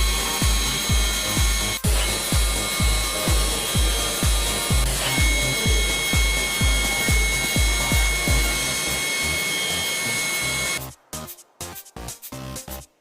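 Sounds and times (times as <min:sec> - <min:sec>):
electronic music with kick beat: 0:00.0 - 0:09.2, 0:10.4 - 0:12.9
deburring tool grinding: 0:00.0 - 0:10.8.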